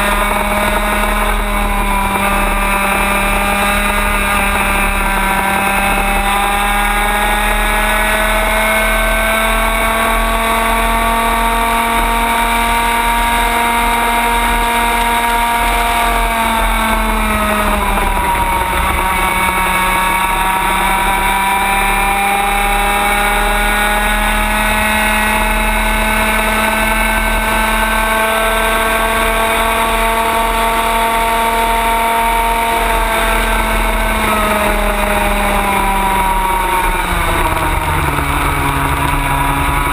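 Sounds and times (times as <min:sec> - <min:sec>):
racing kart engine at high revs: 0:00.0 - 0:39.9.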